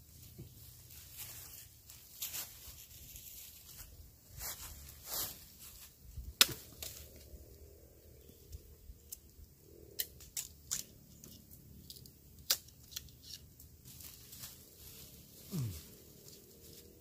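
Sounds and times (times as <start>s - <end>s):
rustling dry leaf litter: 0.0s - 7.5s, 10.2s - 17.0s.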